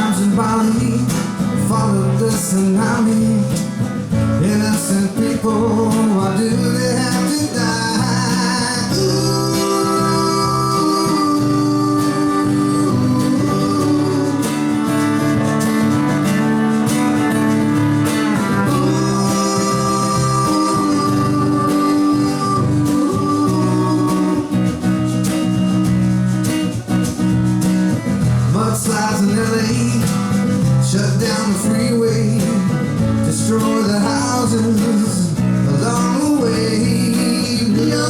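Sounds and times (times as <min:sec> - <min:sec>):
acoustic guitar accompaniment: 0:00.0 - 0:38.0.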